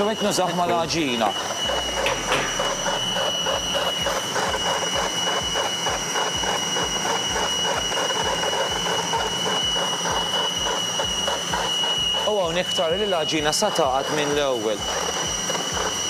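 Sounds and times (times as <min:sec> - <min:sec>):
food processor motor running: 0:00.0 - 0:16.0.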